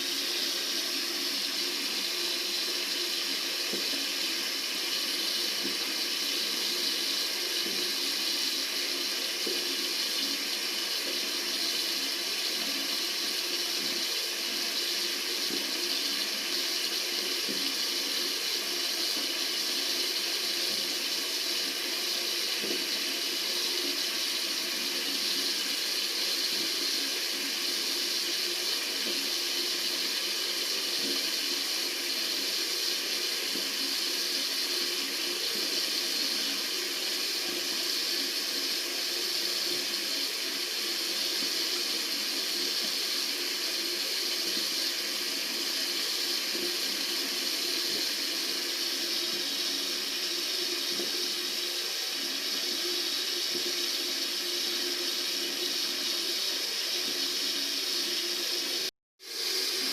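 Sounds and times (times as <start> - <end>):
tap water running into sink: 0.0 - 58.8.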